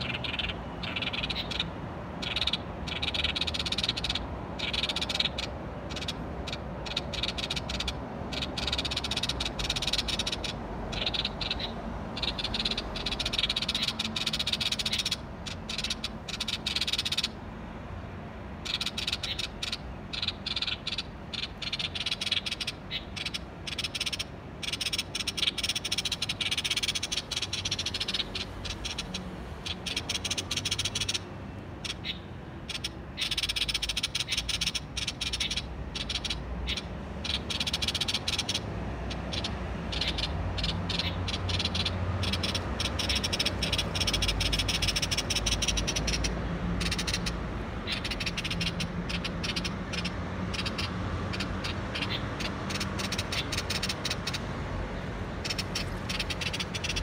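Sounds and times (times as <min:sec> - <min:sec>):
bird calling harsh rapid notes: 0:00.0 - 0:17.4, 0:18.6 - 0:54.5, 0:55.3 - 0:57.0.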